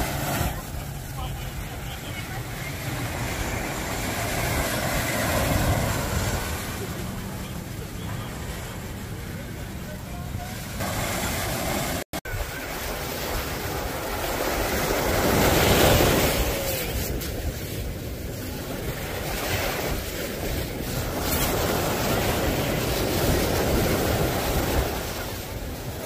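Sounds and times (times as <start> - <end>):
ocean surf washing onto beach: 0.0 - 26.0
wind buffeting microphone: 0.0 - 26.0.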